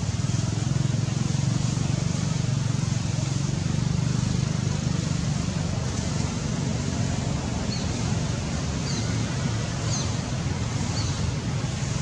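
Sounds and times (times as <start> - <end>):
outdoor rumbling background noise: 0.0 - 12.0.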